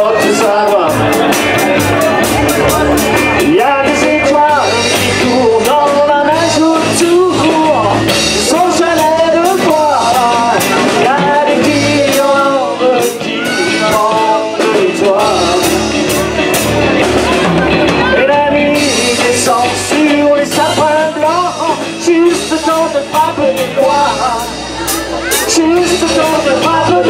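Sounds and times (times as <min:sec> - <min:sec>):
drum kit: 0:00.0 - 0:27.0
electric guitar: 0:00.0 - 0:27.0
person singing: 0:00.0 - 0:27.0.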